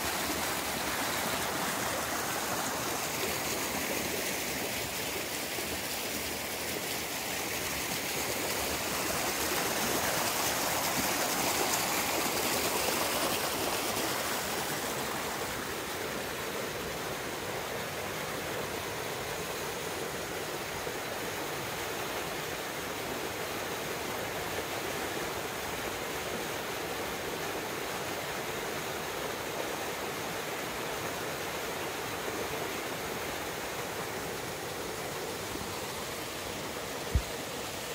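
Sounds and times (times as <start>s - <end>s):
flowing water rushing: 0.0s - 37.9s.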